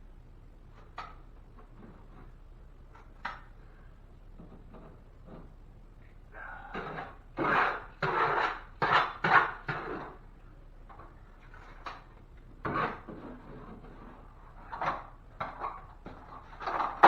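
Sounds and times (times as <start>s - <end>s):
drywall scraping and clattering strokes: 0.7s - 3.8s, 4.4s - 5.7s, 6.6s - 10.3s, 10.9s - 17.0s.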